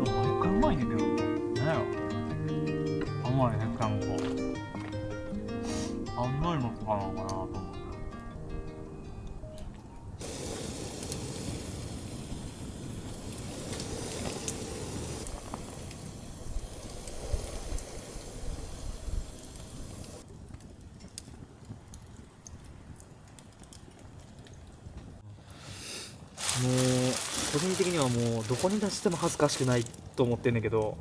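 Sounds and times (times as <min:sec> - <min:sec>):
campfire hissing: 0:00.0 - 0:09.2, 0:10.2 - 0:31.0
campfire crackles and pops: 0:00.0 - 0:31.0.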